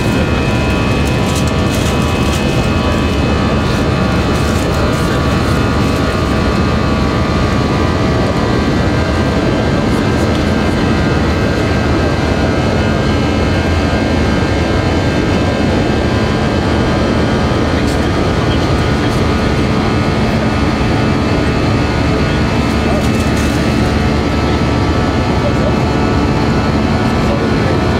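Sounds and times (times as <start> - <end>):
jet engines in cabin: 0.0 - 27.9.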